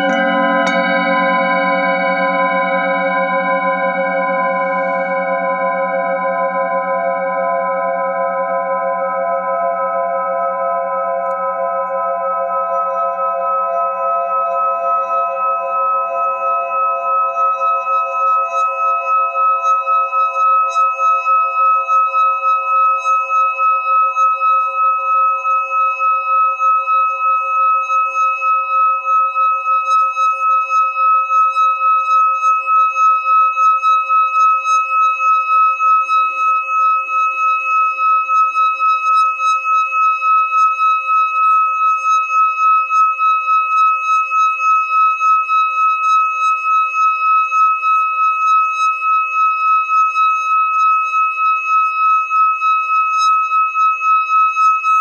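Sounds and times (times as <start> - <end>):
singing bowl ringing tone: 0.0 - 55.0.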